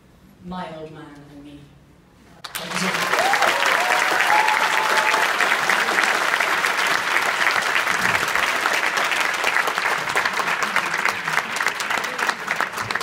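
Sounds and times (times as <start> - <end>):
audience applauding: 2.4 - 13.0.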